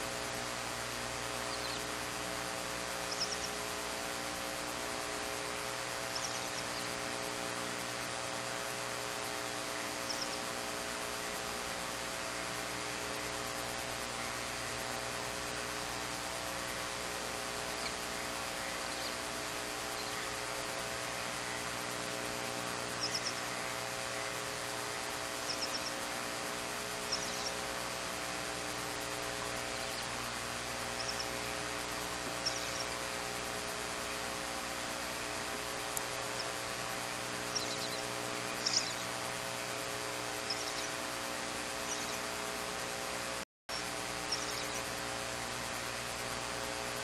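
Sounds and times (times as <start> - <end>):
microphone hiss and hum: 0.0 - 47.0.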